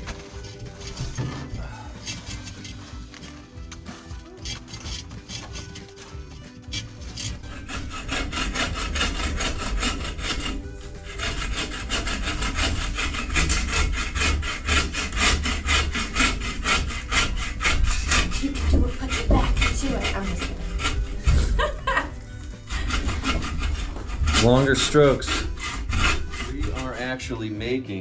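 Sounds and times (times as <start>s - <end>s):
hand saw cutting wood: 0.0s - 28.0s.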